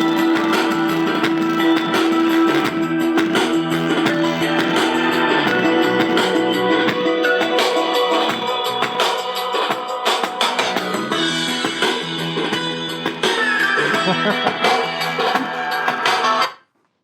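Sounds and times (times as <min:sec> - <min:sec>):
guitar and drums music on speaker: 0:00.0 - 0:16.5.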